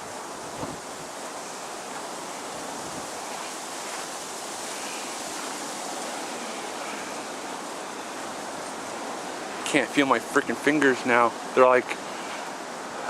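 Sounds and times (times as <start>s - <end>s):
wind blowing: 0.0s - 13.0s.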